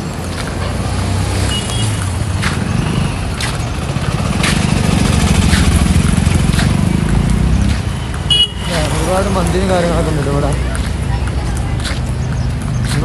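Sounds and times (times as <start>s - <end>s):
lorry engine rumble: 0.0s - 13.0s
sharp clacks: 0.3s - 13.0s.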